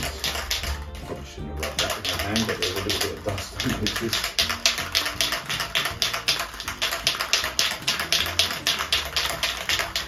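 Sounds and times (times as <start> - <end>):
spray can ball rattling: 0.0 - 10.0.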